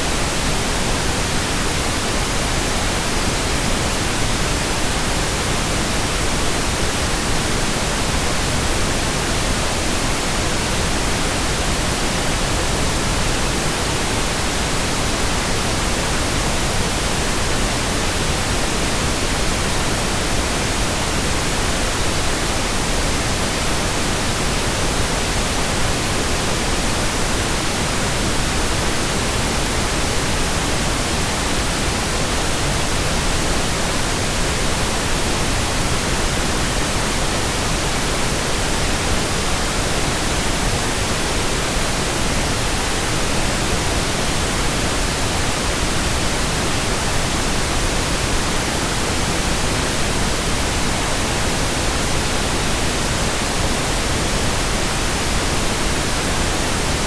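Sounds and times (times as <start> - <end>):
synthetic white noise hiss: 0.0 - 57.0.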